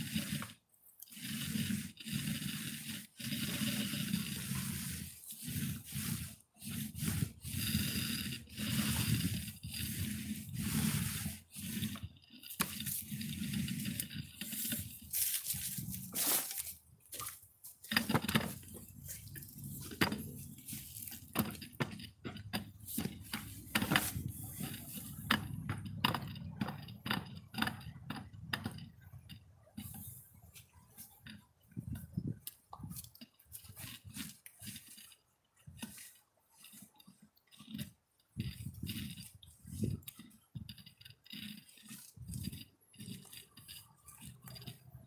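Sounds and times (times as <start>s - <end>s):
paint roller spreading wet coating: 0.0s - 45.0s.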